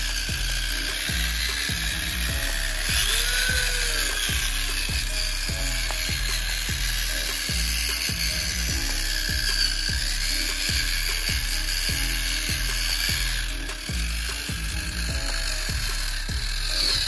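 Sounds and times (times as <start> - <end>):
music with heavy beat: 0.0 - 17.0
small electric motor whirring: 0.0 - 17.0.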